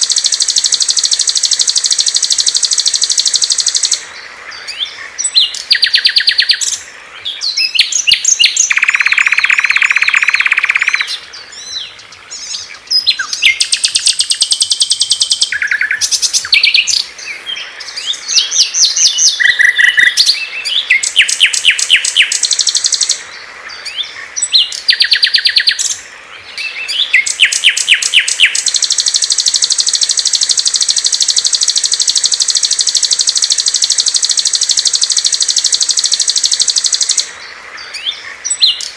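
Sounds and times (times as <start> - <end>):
buzzy bird call: 0.0 - 26.0, 26.6 - 38.9
songbirds chirping and trilling: 0.0 - 38.9.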